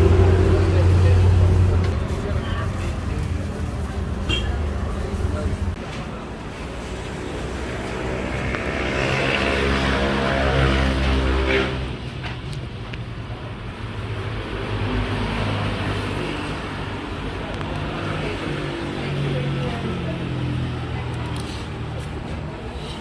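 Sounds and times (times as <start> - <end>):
traffic rumble: 0.0 - 23.0
vehicle engine running close: 0.0 - 23.0.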